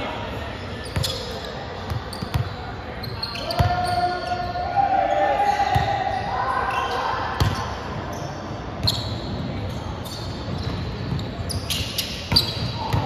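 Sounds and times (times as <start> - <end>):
sneakers squeaking on floor: 0.6 - 13.0.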